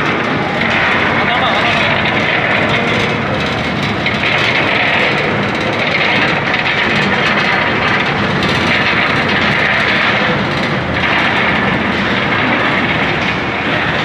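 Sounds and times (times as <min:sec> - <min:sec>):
machinery running with hiss: 0:00.0 - 0:14.0.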